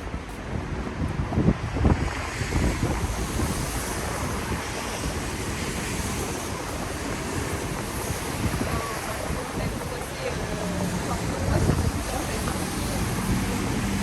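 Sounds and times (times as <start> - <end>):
traffic on wet pavement: 0.0 - 14.0
wind buffeting microphone: 0.0 - 14.0
rain: 0.1 - 14.0.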